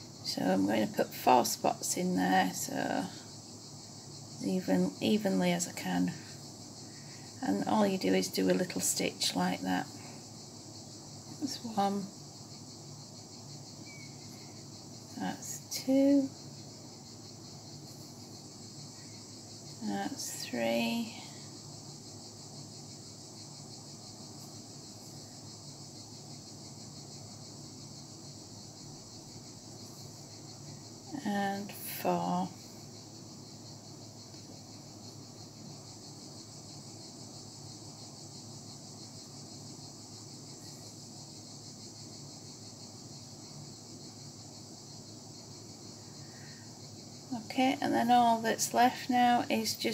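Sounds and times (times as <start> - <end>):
high-pitched hiss with flutter: 0.0 - 49.9.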